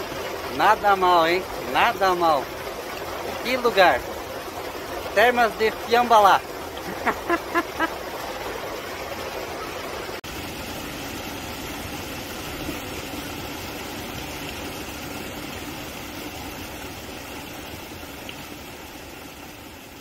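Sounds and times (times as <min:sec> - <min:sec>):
waterfall splashing into pool: 0:00.0 - 0:20.0.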